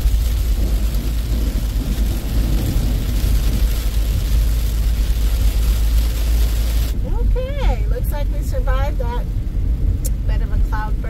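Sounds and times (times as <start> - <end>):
heavy rain on a car: 0.0 - 11.0
low road rumble: 0.0 - 11.0.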